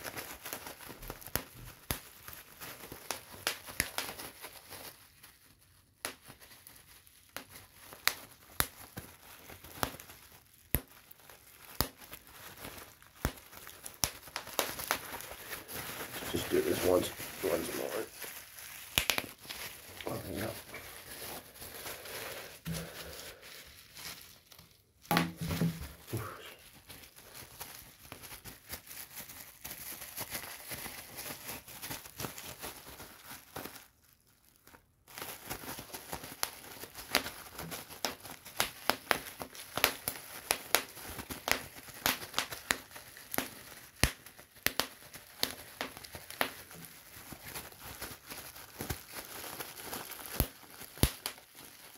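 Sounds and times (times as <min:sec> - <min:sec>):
bubble wrap popping: 0:00.0 - 0:51.9.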